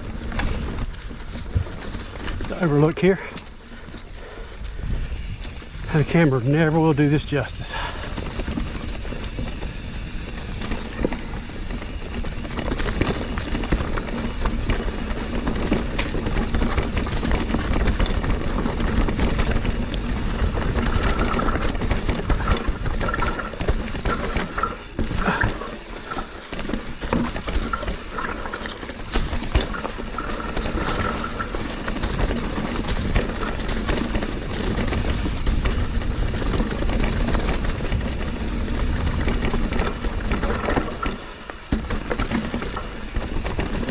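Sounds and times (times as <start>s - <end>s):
bike rattles and clicks: 0.0s - 43.9s
bike tyres on dirt trail: 0.0s - 43.9s
wind rumbling on microphone: 0.0s - 43.9s.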